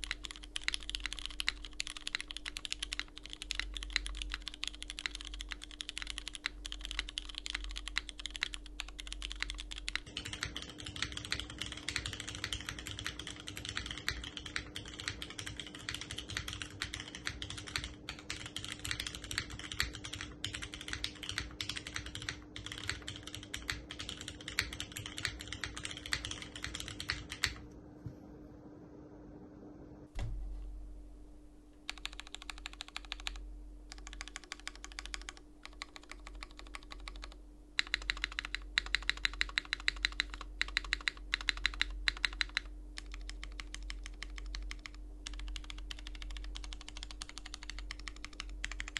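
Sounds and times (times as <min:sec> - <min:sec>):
fast typing on mechanical keyboard: 0:00.0 - 0:27.6, 0:31.9 - 0:48.9.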